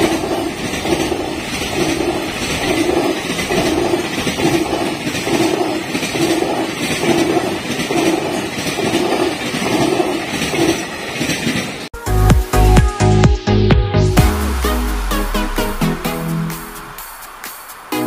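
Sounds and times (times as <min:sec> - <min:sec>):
freight train rumbling past: 0:00.0 - 0:12.0, 0:13.9 - 0:18.0.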